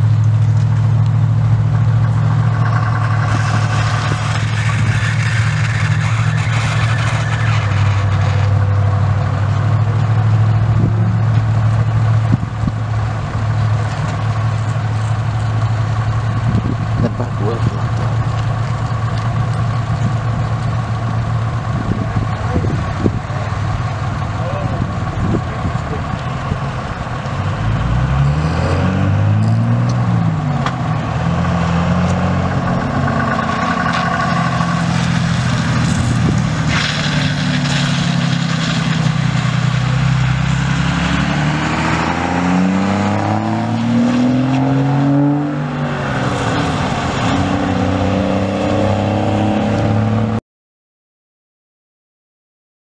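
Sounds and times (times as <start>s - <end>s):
vehicle engines accelerating: 0.0s - 50.4s.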